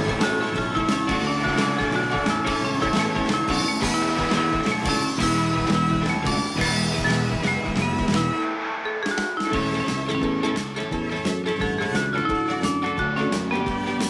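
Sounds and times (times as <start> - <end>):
music with mallet melody: 0.0 - 14.0.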